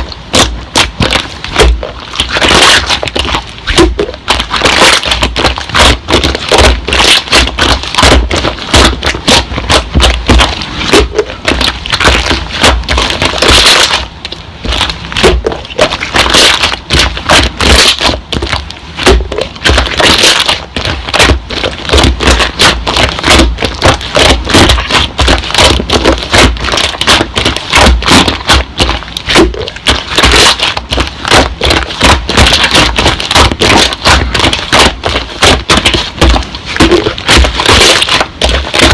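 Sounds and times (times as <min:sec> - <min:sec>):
slime squishing with crackling pops: 0:00.0 - 0:38.9.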